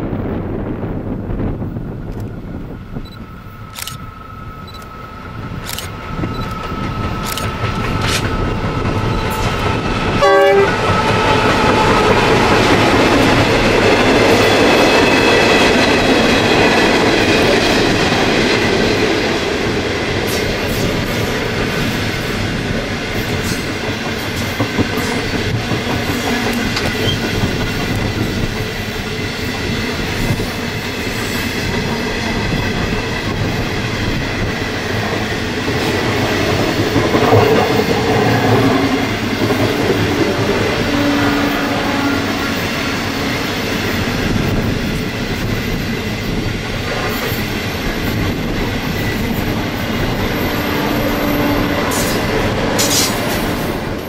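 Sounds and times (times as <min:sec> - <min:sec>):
diesel locomotives passing: 0:00.0 - 0:54.0
train wheels on rails: 0:00.0 - 0:54.0.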